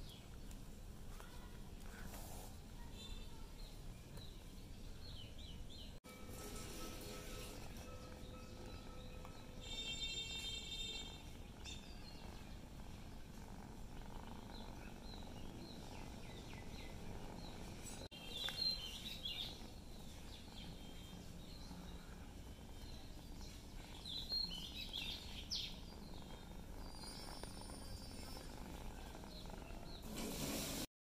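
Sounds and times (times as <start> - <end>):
small birds chirping: 0.0 - 6.0, 7.6 - 30.2.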